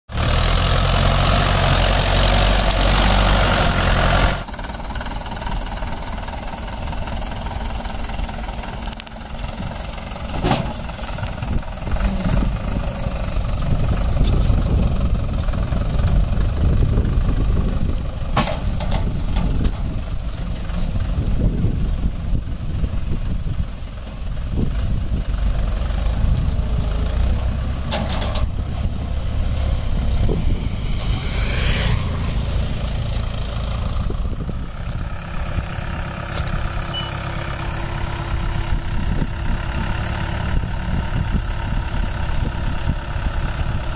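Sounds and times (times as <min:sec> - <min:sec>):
tractor diesel engine rumbling: 0:00.1 - 0:43.9.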